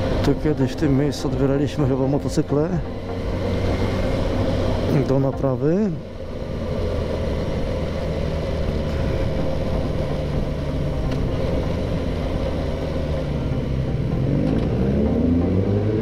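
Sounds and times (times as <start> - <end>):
road noise: 0.0 - 16.0
motorcycle engine running: 1.0 - 16.0.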